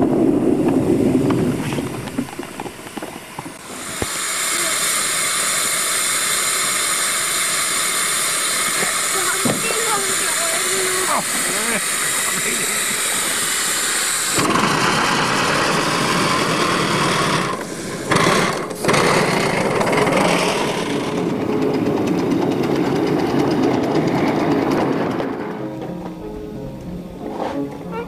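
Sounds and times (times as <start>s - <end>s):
steam hissing: 0.0s - 28.0s
steam locomotive chuffing: 0.0s - 28.0s.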